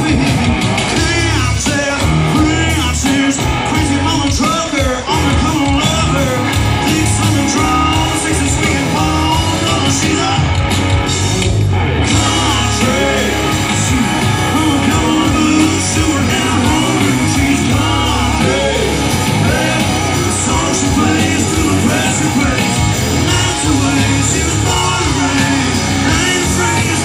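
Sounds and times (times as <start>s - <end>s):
live country rock band: 0.0s - 27.0s.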